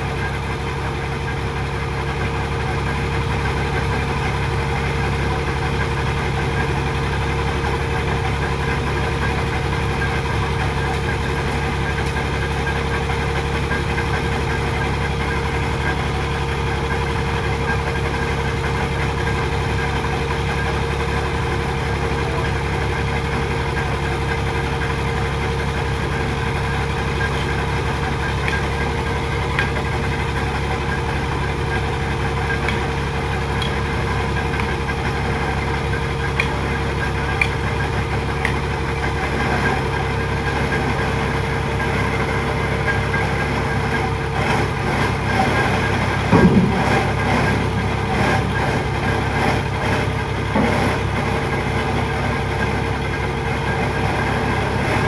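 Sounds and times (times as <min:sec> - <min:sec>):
piling machine engine running: 0:00.0 - 0:55.0.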